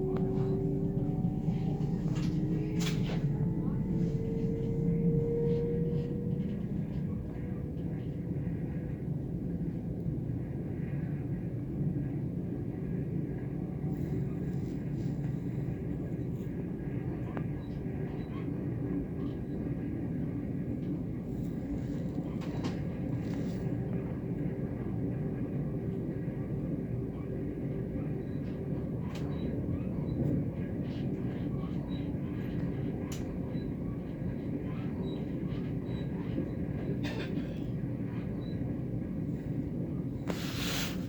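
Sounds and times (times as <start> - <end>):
train rumbling on track: 0.0 - 41.0.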